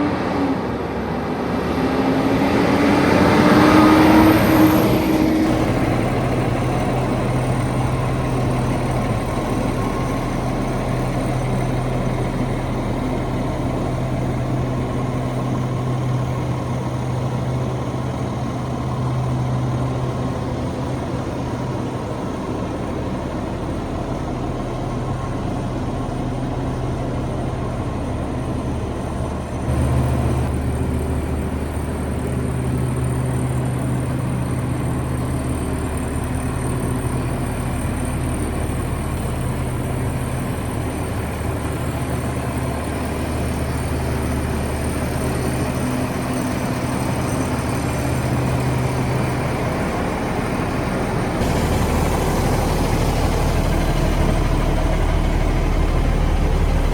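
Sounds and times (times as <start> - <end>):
truck diesel engine running: 0.7 - 56.9.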